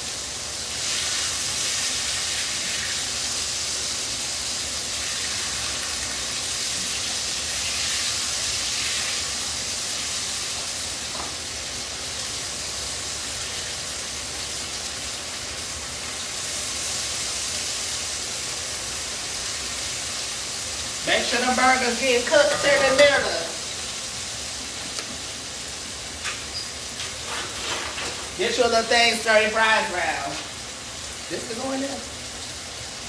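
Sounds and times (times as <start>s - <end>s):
hot oil sizzling: 0.0s - 33.0s.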